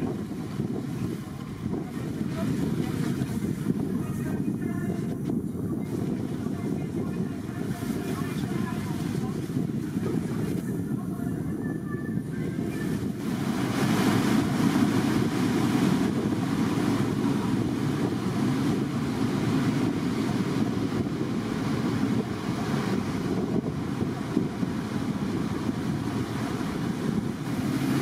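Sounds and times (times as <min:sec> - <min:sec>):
boat engine hum: 0:00.0 - 0:28.0
rushing water: 0:00.0 - 0:28.0
wind buffeting microphone: 0:00.0 - 0:28.0.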